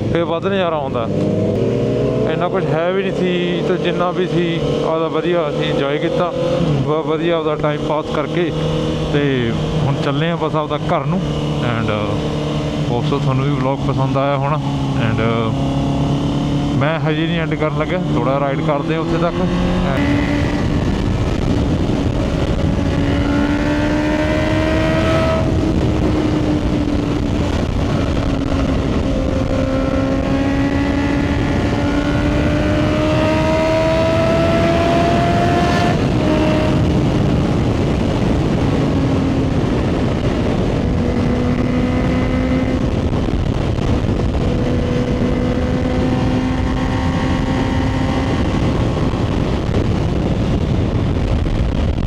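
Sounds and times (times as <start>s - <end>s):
motorcycle engine at road speed: 0.0s - 52.0s
road noise: 0.0s - 52.0s
wind noise on microphone: 0.0s - 52.0s.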